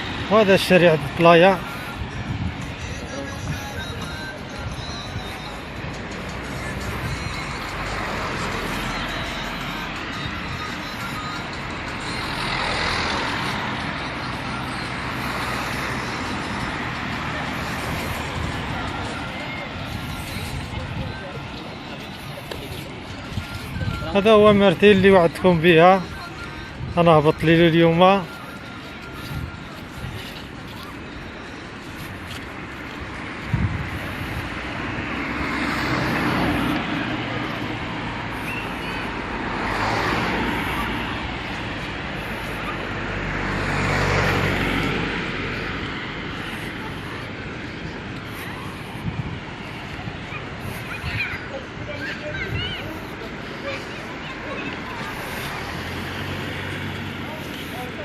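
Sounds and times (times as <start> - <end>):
cars passing on street: 0.0 - 58.0
road noise: 0.0 - 58.0.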